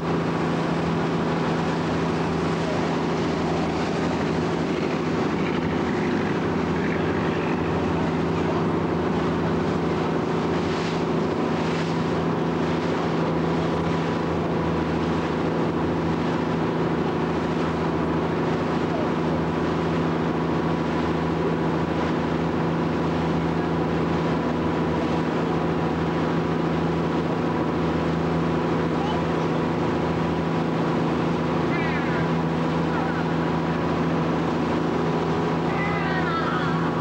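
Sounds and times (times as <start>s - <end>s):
motorboat engine running: 0.0s - 37.0s
water rushing: 0.0s - 37.0s.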